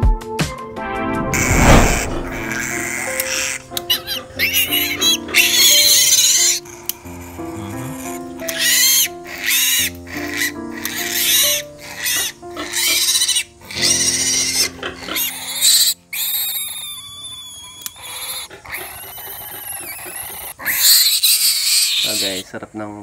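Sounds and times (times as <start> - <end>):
piglet squealing: 1.4 - 22.5.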